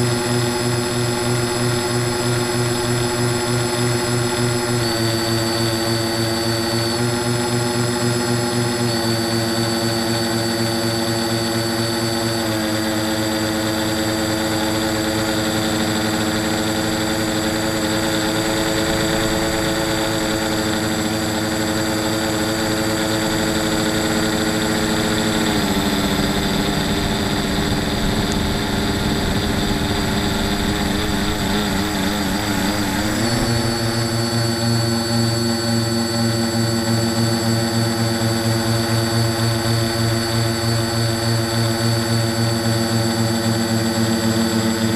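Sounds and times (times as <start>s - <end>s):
drone motors whining: 0.2s - 44.9s.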